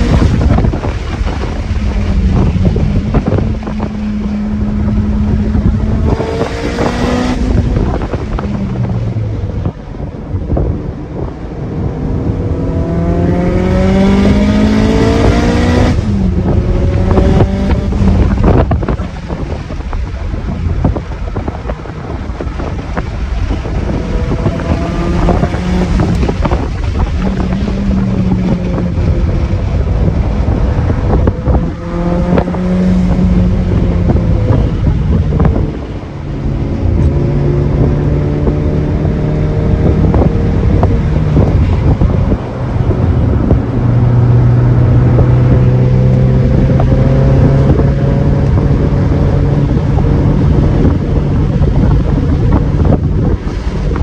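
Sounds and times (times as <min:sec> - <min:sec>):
car engine accelerating: 0:00.0 - 0:54.0
wind noise on microphone: 0:00.0 - 0:54.0.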